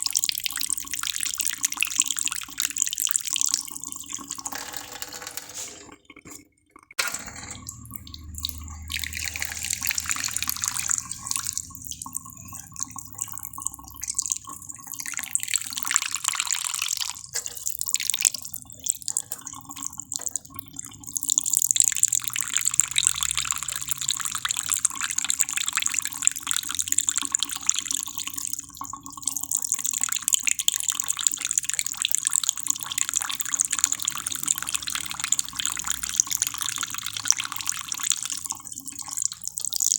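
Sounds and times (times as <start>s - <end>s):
water running and dripping: 7.6s - 39.9s.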